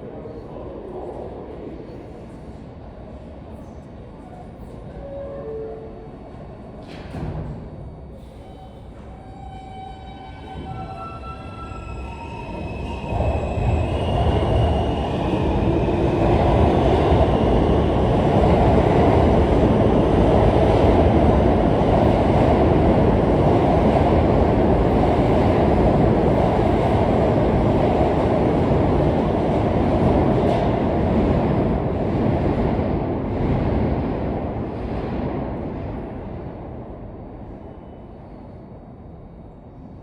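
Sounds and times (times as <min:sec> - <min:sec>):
subway train wheels on rail: 0:00.0 - 0:40.0.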